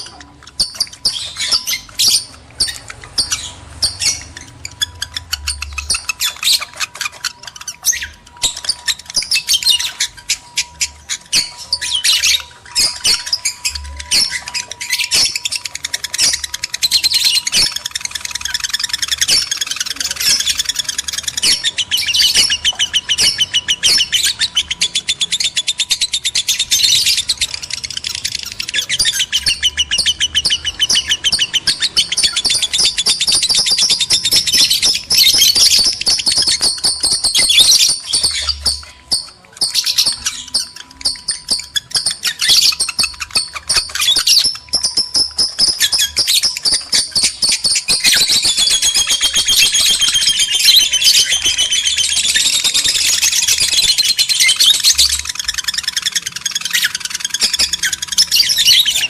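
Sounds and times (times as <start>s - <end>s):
lovebirds chattering and shrieking: 0.0s - 59.0s.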